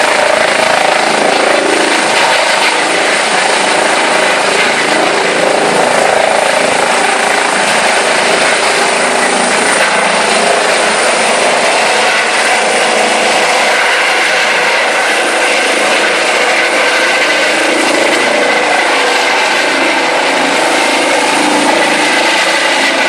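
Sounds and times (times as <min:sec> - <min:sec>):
helicopter engines and rotors: 0:00.0 - 0:23.0
high turbine whine: 0:00.0 - 0:23.0.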